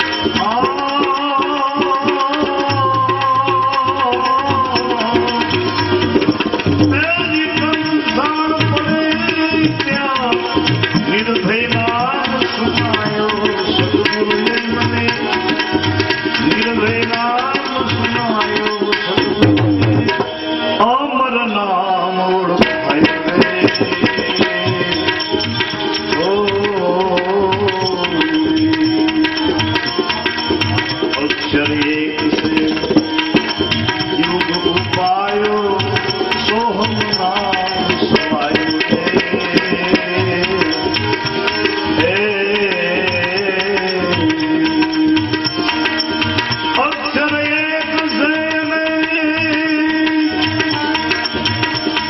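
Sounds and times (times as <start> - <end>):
tabla rhythm: 0.0 - 52.0.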